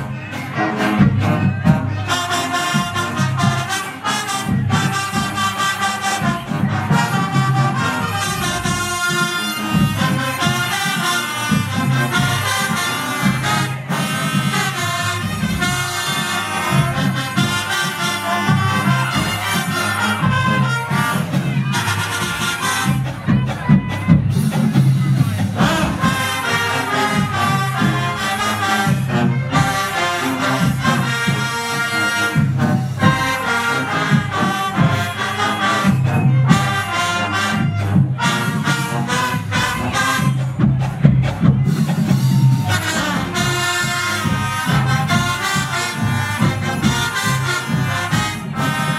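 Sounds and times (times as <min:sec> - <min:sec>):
brass-heavy music with bass beat: 0:00.0 - 0:48.9.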